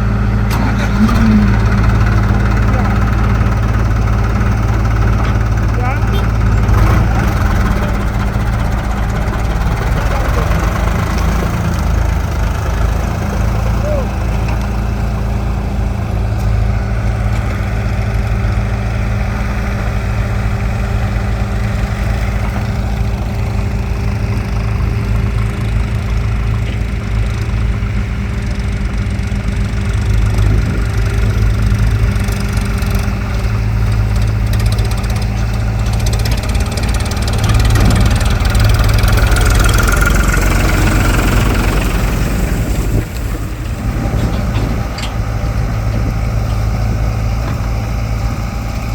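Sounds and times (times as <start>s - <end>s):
diesel engines running: 0.0s - 48.9s.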